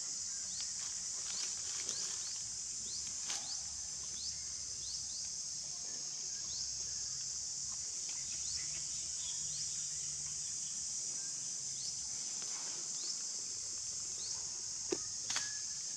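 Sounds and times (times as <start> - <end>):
high-pitched insect chorus: 0.0 - 15.9.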